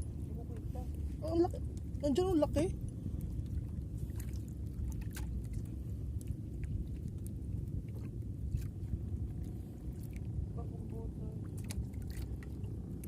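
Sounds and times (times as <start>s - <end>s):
low rumble of water: 0.0s - 13.0s.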